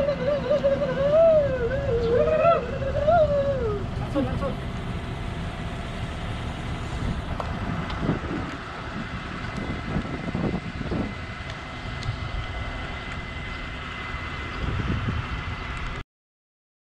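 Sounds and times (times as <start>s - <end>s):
crane diesel engine running: 0.0s - 16.0s.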